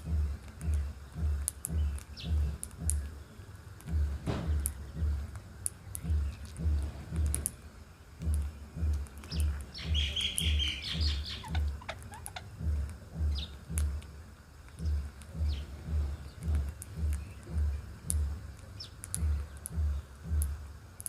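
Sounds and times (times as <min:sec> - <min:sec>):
steady low thump: 0:00.0 - 0:03.2, 0:03.8 - 0:07.6, 0:08.2 - 0:20.8
small birds chirping: 0:00.0 - 0:21.0.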